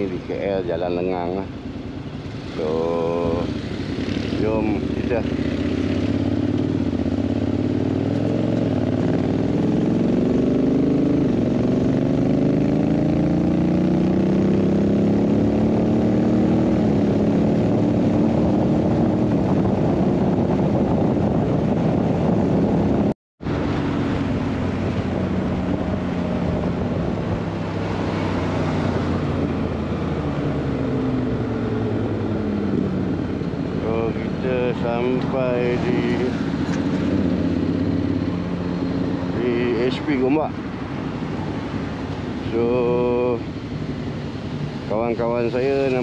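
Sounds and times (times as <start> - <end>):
wind and road noise: 0.0 - 46.0
motorcycle engine accelerating: 2.2 - 40.5.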